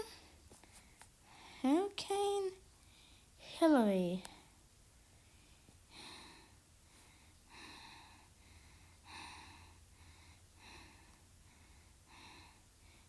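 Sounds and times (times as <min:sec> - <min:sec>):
soft breathing: 0:00.0 - 0:01.8, 0:02.8 - 0:03.4, 0:04.3 - 0:13.0.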